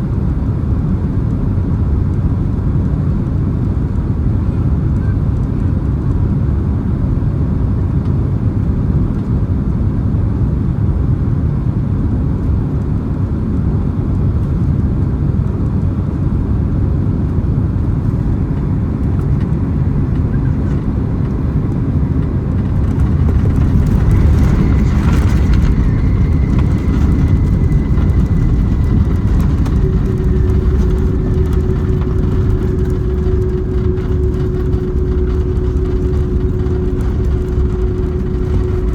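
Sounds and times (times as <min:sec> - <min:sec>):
aircraft engine and airflow rumble: 0:00.0 - 0:38.9
faint steady whine: 0:00.0 - 0:38.9.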